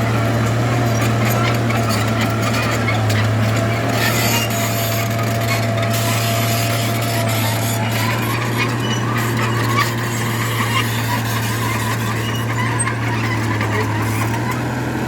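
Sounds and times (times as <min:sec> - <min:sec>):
diesel engine running: 0:00.0 - 0:15.0
clicking and scraping: 0:00.1 - 0:14.6.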